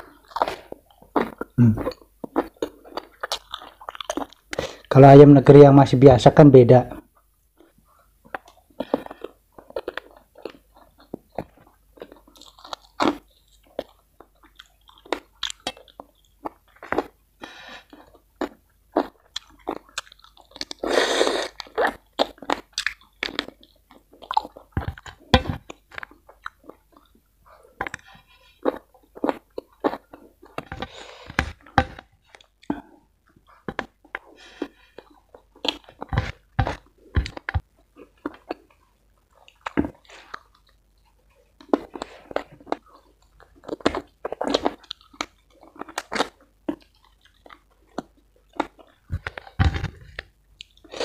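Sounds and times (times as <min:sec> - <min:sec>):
wet chewing: 0:00.0 - 0:04.9, 0:07.6 - 0:51.0.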